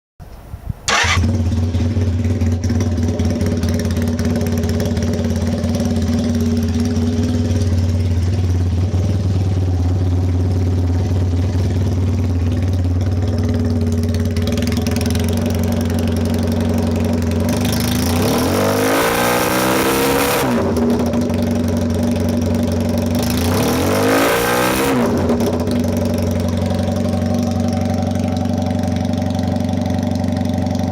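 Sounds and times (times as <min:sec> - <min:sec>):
motorcycle engine idling: 0:00.8 - 0:18.6, 0:20.6 - 0:24.2, 0:25.0 - 0:30.9.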